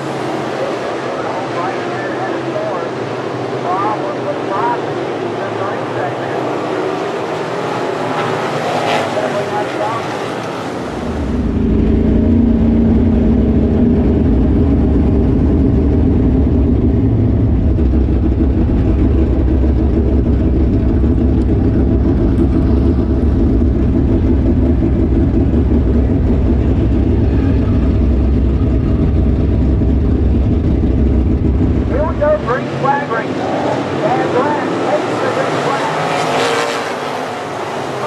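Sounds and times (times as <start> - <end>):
race car engine running hard: 0.0 - 38.0.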